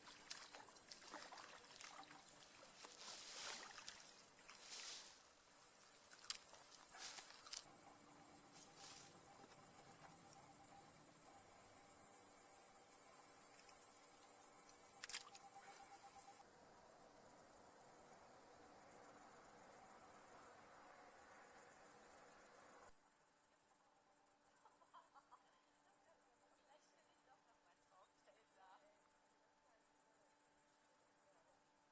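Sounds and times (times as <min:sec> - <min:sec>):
crickets chirring: 0:00.0 - 0:31.9.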